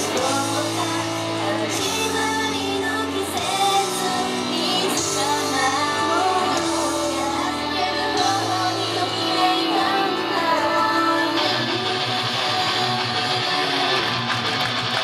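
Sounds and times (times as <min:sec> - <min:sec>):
women singing into microphones: 0:00.0 - 0:14.1
loud pop music: 0:00.0 - 0:15.0.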